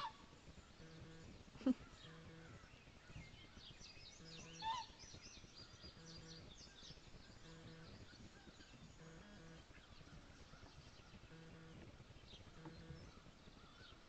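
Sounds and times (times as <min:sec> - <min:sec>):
faint bird twittering: 0:00.0 - 0:14.0.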